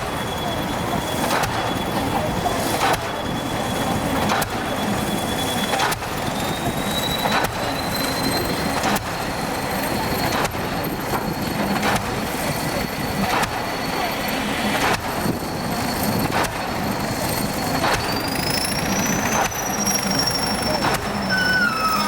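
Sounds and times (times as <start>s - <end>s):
machine engine running: 0.0s - 22.0s
thin high-pitched whine: 0.0s - 22.0s.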